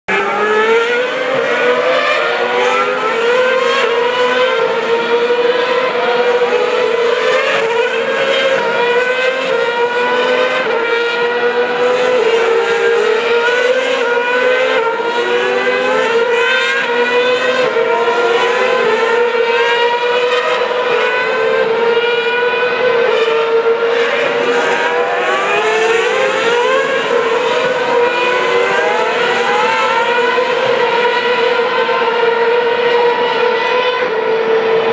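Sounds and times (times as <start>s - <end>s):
racing car engines accelerating: 0.1s - 34.9s.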